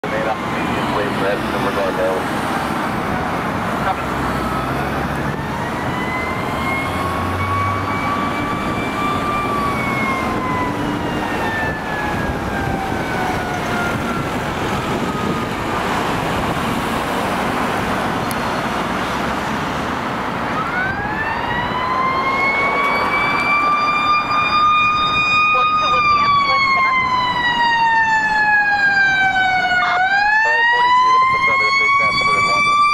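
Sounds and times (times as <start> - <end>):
fire engine siren wailing: 0.0 - 32.9
road traffic: 0.0 - 32.9.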